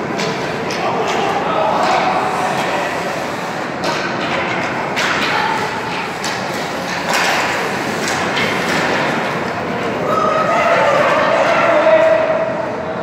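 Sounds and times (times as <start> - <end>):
ice hockey game din: 0.0 - 13.0.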